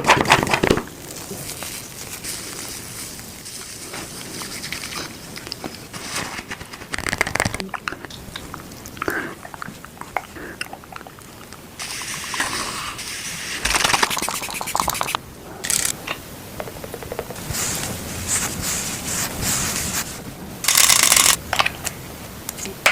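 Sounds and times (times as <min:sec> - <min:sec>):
scratching and crackling of containers: 0:00.0 - 0:22.0.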